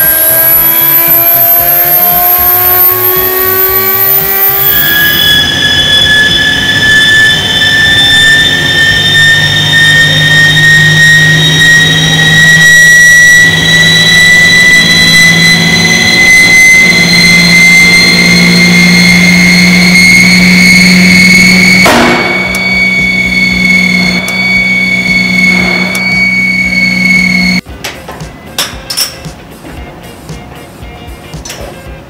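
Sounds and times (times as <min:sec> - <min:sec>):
grinding wheel whine: 0:00.0 - 0:27.6.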